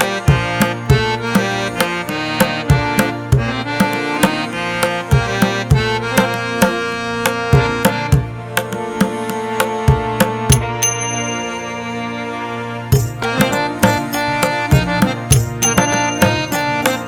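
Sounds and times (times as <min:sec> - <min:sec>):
drum strokes: 0:00.0 - 0:11.0, 0:12.9 - 0:17.0
sustained melodic tones: 0:00.0 - 0:17.0.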